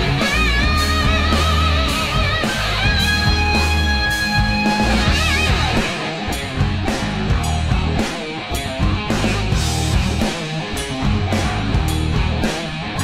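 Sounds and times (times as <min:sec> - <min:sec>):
bass: 0:00.0 - 0:13.0
electric guitar with vibrato: 0:00.0 - 0:13.0
steady drum beat: 0:00.0 - 0:13.0.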